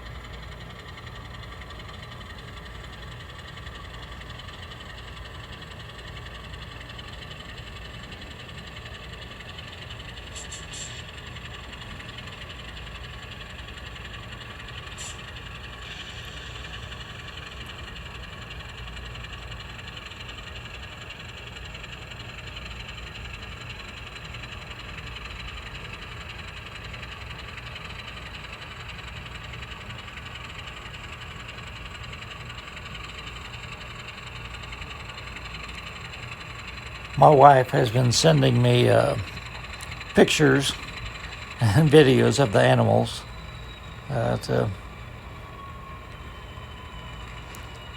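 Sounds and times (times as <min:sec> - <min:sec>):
model train motor hum: 0:00.0 - 0:37.5, 0:38.1 - 0:47.9.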